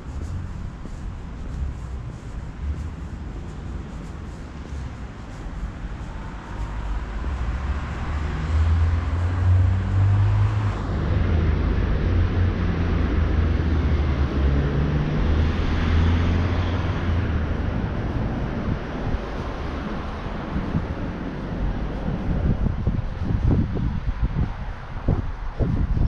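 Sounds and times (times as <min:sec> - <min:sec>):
street traffic: 0:00.0 - 0:26.0
wind buffeting microphone: 0:00.0 - 0:26.0.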